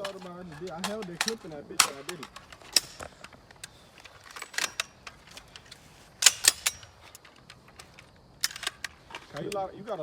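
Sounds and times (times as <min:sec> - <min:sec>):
gun and magazine clicking: 0:00.0 - 0:09.6.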